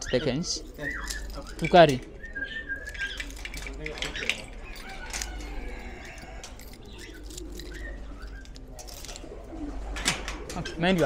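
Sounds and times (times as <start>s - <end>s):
birds chirping: 0.0s - 11.0s
birds cooing: 0.0s - 11.0s.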